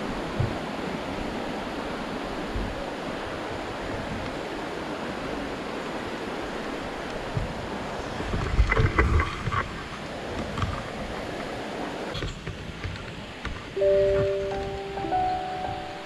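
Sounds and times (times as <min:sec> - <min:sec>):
mountain stream rushing: 0:00.0 - 0:16.0.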